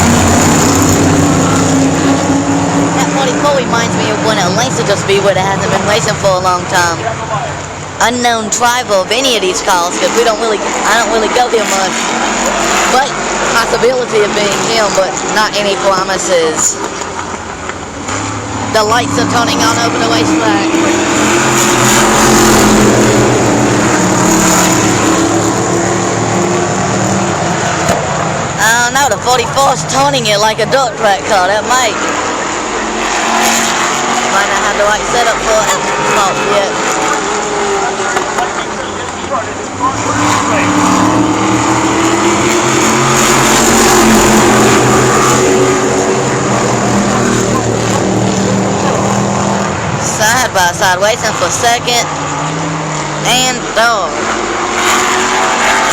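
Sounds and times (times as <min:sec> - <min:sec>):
race car engines droning: 0:00.0 - 0:55.9.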